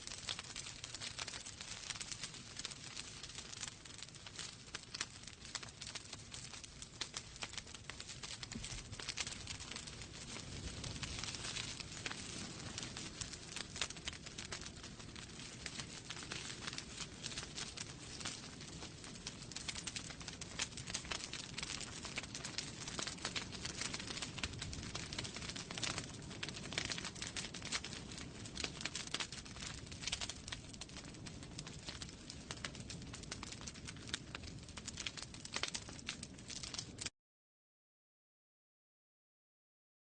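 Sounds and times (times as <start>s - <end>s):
wood fire crackling: 0.0s - 37.1s.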